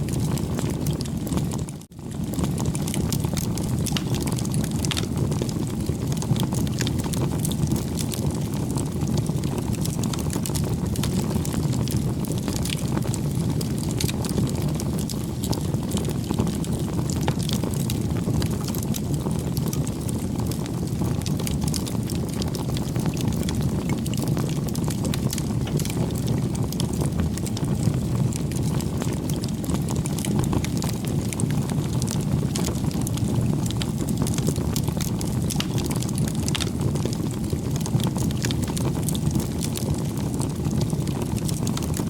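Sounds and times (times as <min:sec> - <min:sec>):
bonfire crackling and rumbling: 0:00.0 - 0:42.0.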